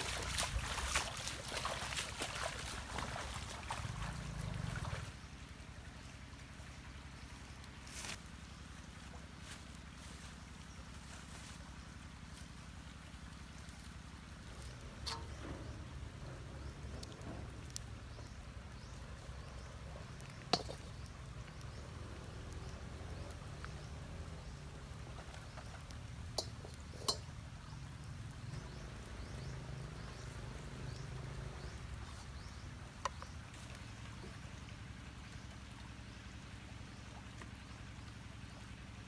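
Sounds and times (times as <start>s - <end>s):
stream trickling: 0.0s - 39.0s.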